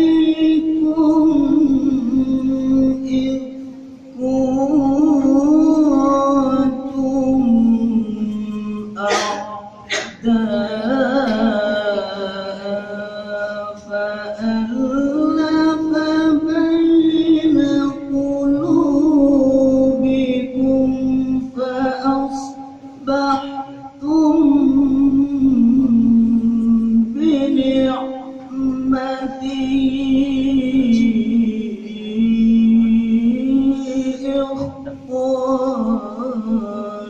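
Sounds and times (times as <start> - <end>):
man reciting melodically: 0.0 - 37.0.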